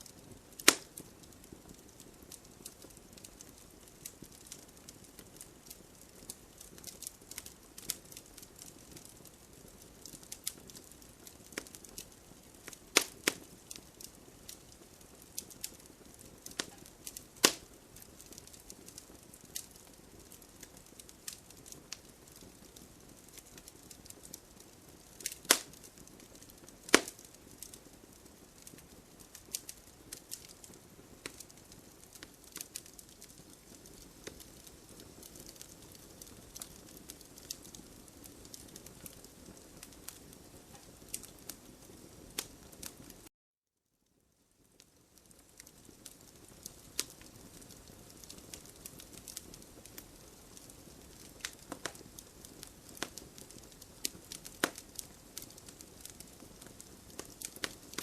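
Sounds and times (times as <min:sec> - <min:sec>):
wood fire crackling: 0:00.0 - 0:43.3, 0:44.1 - 0:58.0
sharp fire pops: 0:00.3 - 0:09.1, 0:09.7 - 0:27.8, 0:28.6 - 0:43.2, 0:45.2 - 0:58.0.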